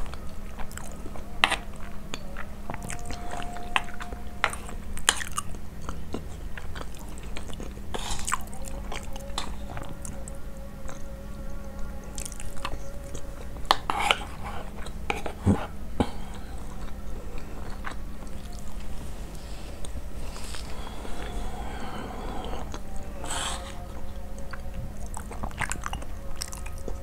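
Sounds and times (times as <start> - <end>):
chewing rice: 0.0 - 27.0.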